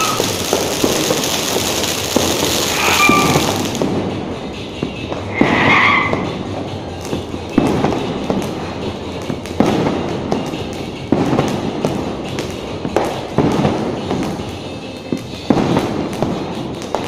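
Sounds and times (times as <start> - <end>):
firecracker bangs: 0.0 - 17.0
firecrackers crackling: 0.0 - 17.0.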